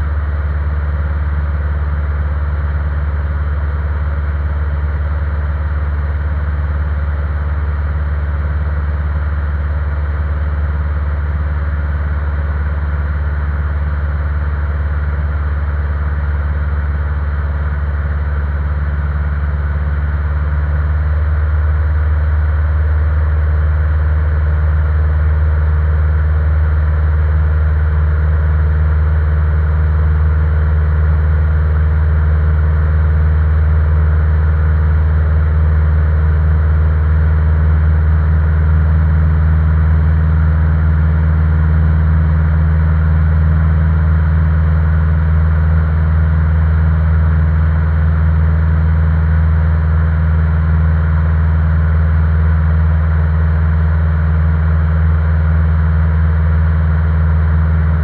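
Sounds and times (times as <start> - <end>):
light airplane engine and propeller: 0.0 - 58.0.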